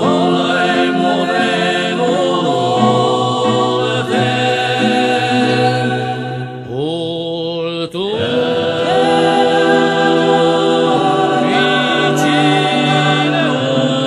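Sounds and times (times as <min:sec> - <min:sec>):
choral singing: 0:00.0 - 0:14.0.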